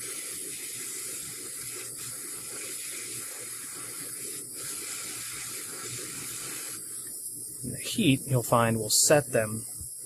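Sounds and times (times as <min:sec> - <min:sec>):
butane torch jet hissing: 0:00.0 - 0:10.0.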